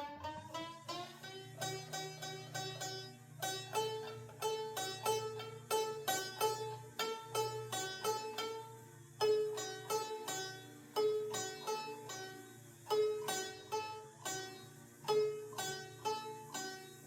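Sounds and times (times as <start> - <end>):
plucked string notes: 0.0 - 17.0
steady low hum: 0.0 - 17.0.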